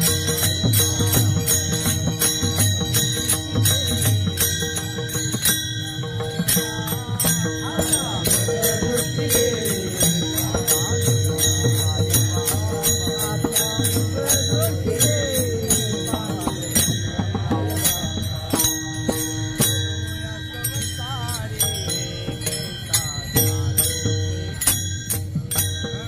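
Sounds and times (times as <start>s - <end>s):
hand cymbals struck: 0.0s - 26.0s.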